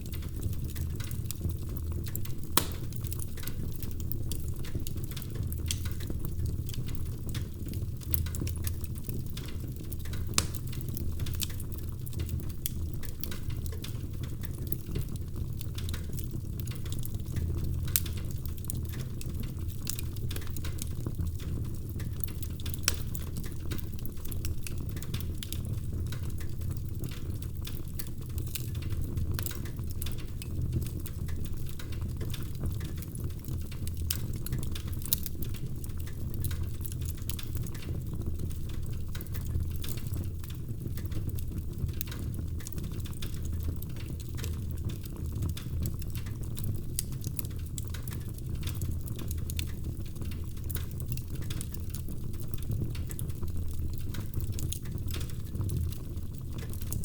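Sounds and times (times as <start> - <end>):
fire crackling in fireplace: 0.0 - 57.0.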